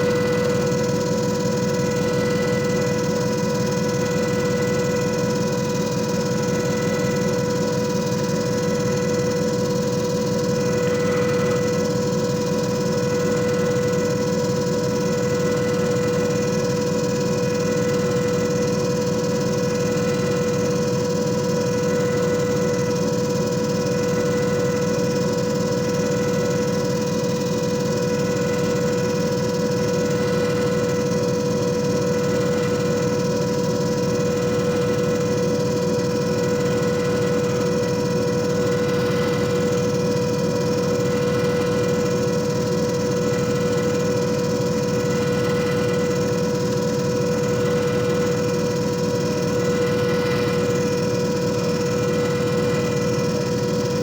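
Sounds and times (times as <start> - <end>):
disc repair machine motor humming: 0.0 - 54.0.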